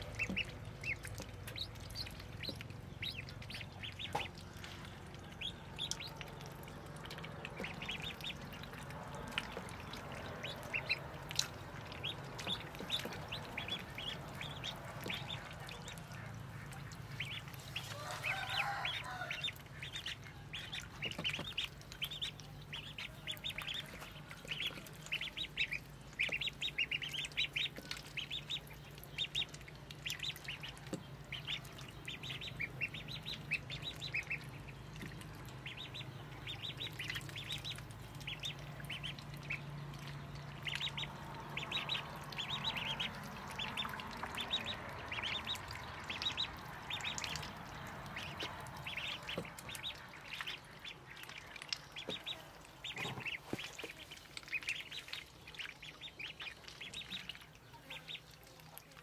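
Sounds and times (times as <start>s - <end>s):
ducklings peeping: 0.0s - 59.0s.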